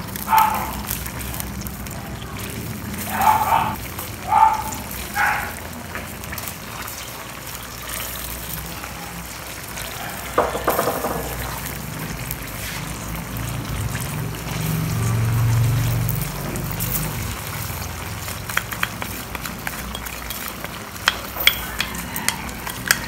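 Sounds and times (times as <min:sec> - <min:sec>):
sauce bubbling and sizzling in a pan: 0:00.0 - 0:23.0.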